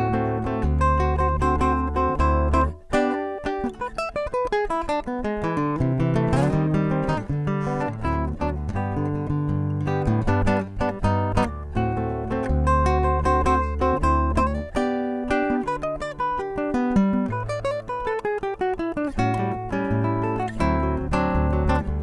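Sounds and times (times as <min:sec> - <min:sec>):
fingerstyle acoustic guitar: 0:00.0 - 0:22.0.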